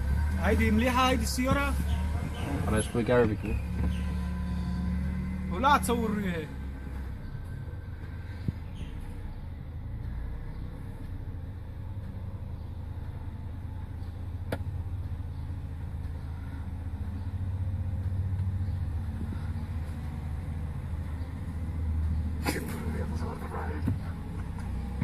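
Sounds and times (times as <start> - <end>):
truck engines idling: 0.0 - 25.0.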